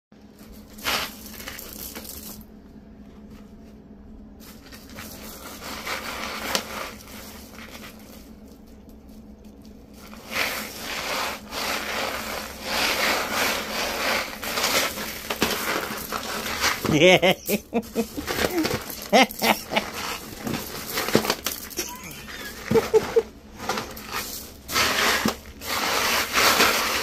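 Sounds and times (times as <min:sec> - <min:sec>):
dried beans rattling in plastic pool: 0:00.2 - 0:03.4, 0:04.3 - 0:27.0.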